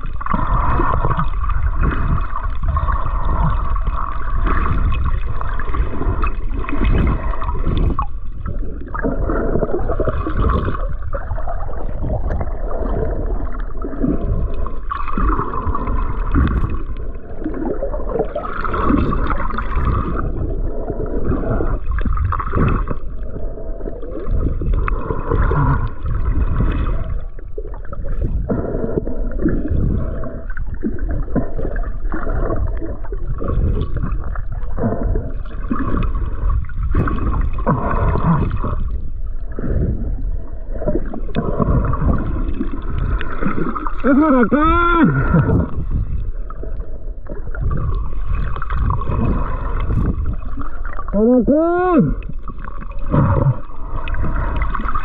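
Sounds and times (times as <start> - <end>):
muffled water gurgling underwater: 0.0 - 55.0.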